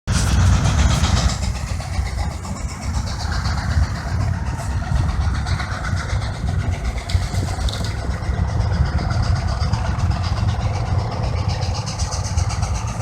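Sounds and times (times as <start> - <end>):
steam traction engine rumbling: 0.1 - 13.0.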